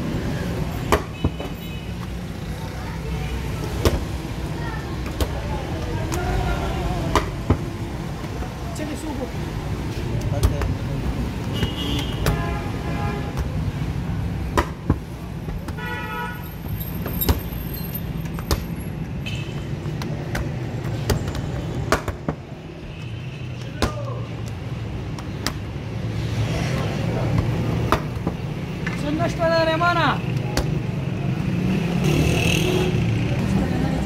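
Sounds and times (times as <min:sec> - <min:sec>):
street traffic rumbling: 0:00.0 - 0:34.0.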